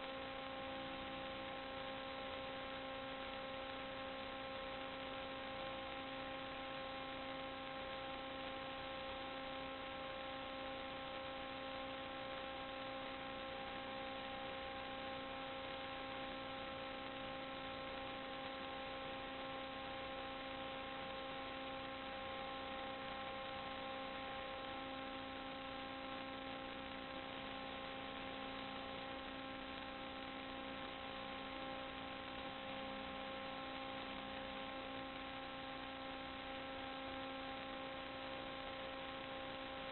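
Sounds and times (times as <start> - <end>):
constant hiss: 0.0 - 39.9
steady electrical hum: 0.0 - 39.9.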